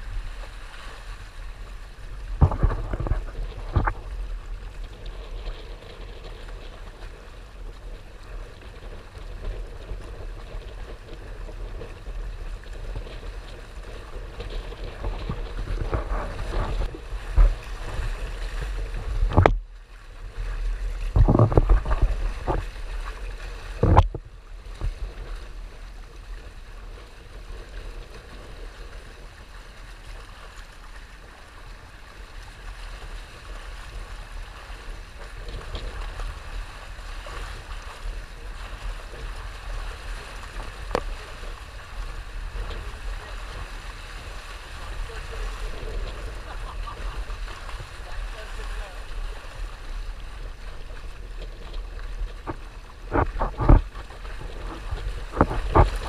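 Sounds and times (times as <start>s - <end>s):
water rushing along boat hulls: 0.0s - 56.0s
wind buffeting microphone: 1.2s - 56.0s.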